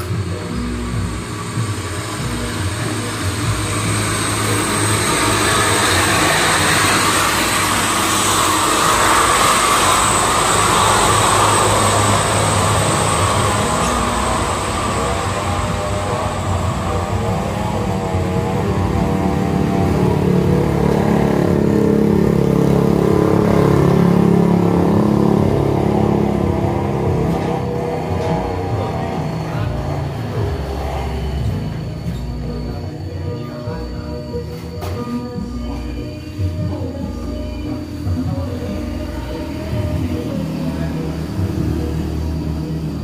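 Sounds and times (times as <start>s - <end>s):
thin high whine: 0.0s - 43.0s
truck engine and tyre noise: 0.0s - 43.0s.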